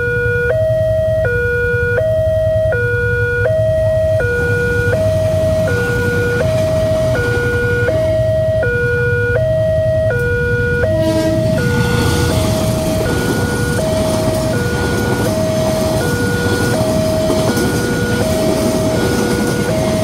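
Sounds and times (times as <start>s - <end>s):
level crossing two-tone alarm: 0.0s - 20.0s.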